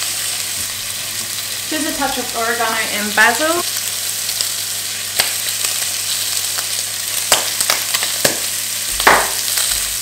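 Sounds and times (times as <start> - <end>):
bacon sizzling in frying pan: 0.0 - 10.0.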